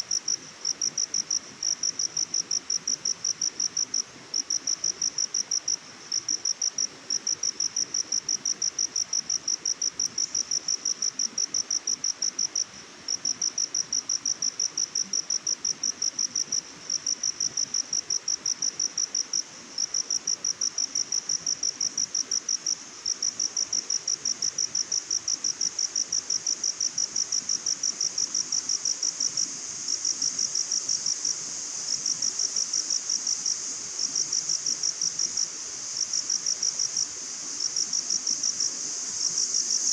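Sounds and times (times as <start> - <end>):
cricket chirping: 0.0 - 39.9
high insect hiss: 0.0 - 39.9.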